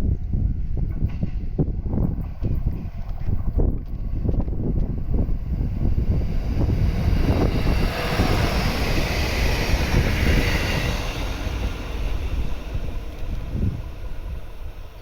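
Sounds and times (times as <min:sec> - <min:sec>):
diesel railcar passing: 0:00.0 - 0:15.0
wind rumble on microphone: 0:00.0 - 0:15.0.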